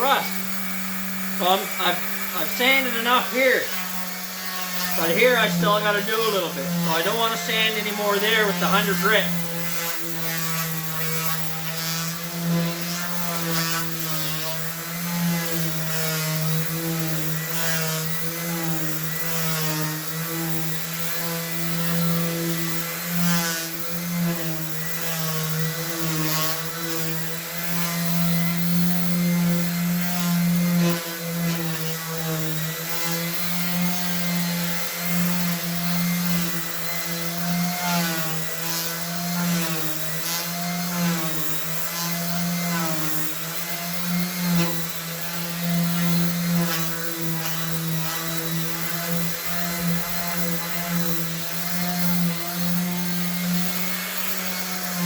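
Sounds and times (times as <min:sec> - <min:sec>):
electric sander running: 0:00.0 - 0:55.0.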